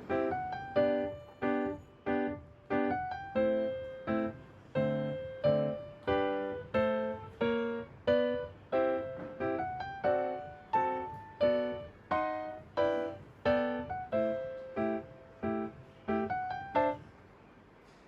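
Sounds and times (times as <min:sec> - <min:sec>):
piano chords: 0:00.0 - 0:17.7.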